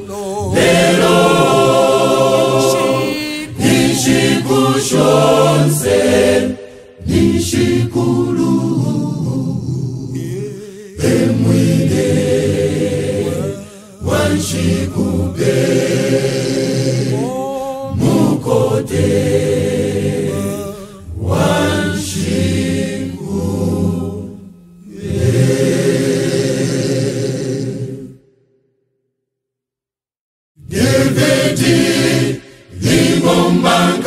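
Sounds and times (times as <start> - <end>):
choir singing a hymn: 0.0 - 28.2, 30.6 - 34.0.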